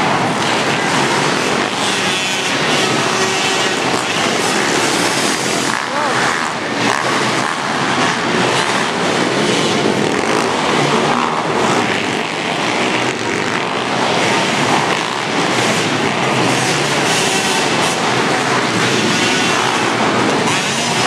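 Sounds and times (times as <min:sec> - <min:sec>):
pit bike engines racing: 0:00.0 - 0:21.0.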